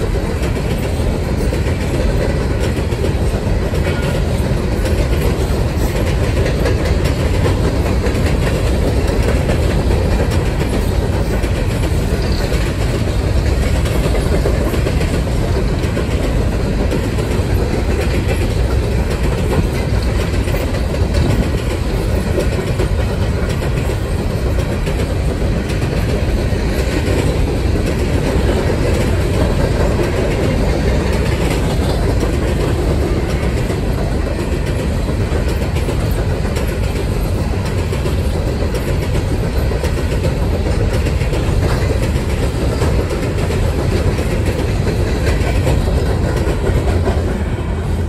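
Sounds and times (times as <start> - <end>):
train wheels rumbling on rails: 0.0 - 48.0
wheels clacking over rail joints: 0.0 - 48.0.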